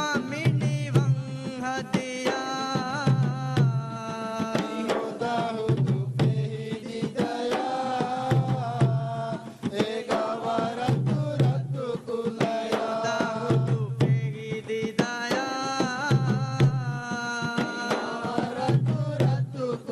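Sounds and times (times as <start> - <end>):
hand drums in quick rhythm: 0.0 - 19.9.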